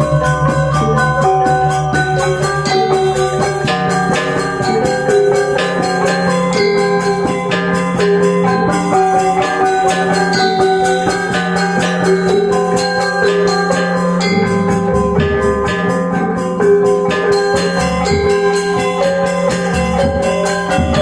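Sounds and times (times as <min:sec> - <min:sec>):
gamelan ensemble playing: 0:00.0 - 0:21.0.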